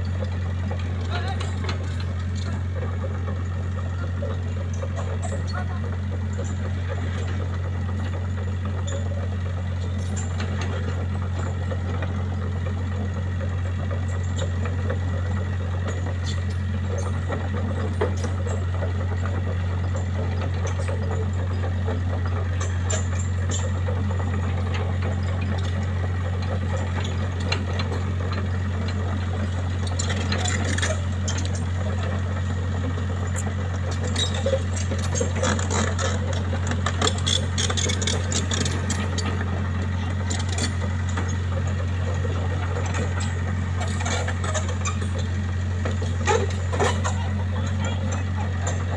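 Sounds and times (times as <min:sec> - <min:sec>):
rattling and clicking: 0:00.0 - 0:09.2, 0:13.4 - 0:48.9
engine droning: 0:00.0 - 0:48.9.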